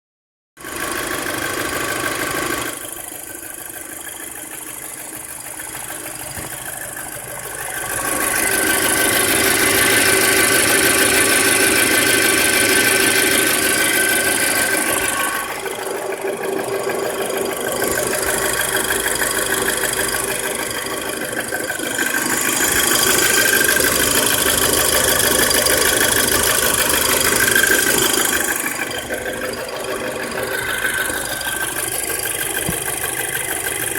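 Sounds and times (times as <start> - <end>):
car engine running: 0.6 - 33.9
engine ticking: 0.6 - 33.9.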